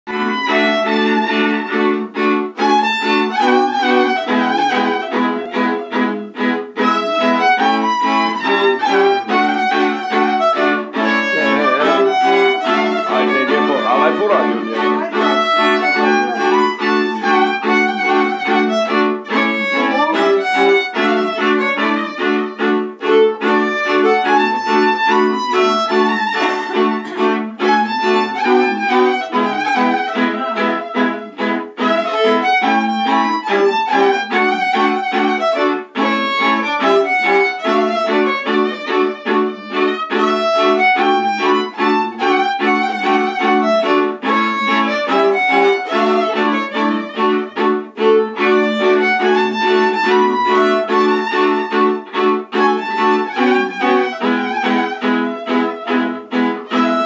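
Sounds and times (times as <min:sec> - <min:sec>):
two fiddles playing carol tune: 0:00.0 - 0:57.0.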